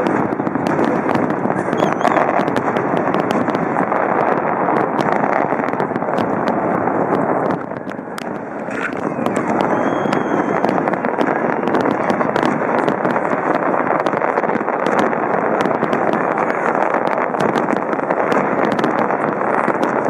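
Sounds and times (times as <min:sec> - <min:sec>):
firework whistle: 0:00.0 - 0:20.0
fireworks bursts rumbling: 0:00.0 - 0:20.0
fireworks crackling pops: 0:00.0 - 0:20.0.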